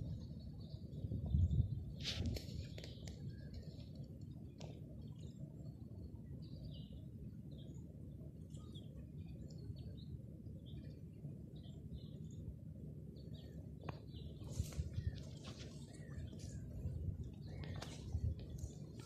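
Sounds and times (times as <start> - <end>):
songbirds chirping: 0.0 - 19.0
steady low rumble: 0.0 - 19.0.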